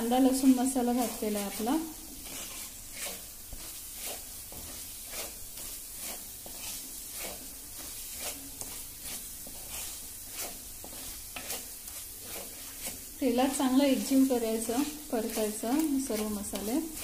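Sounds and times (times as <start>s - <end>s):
spices sizzling in hot oil: 0.0s - 17.0s
wooden spatula stirring and scraping: 0.0s - 17.0s.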